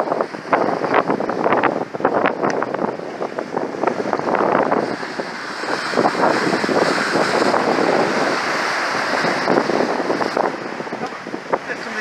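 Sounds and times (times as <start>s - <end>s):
water splashing along hull: 0.0s - 12.0s
wind buffeting microphone: 0.0s - 12.0s.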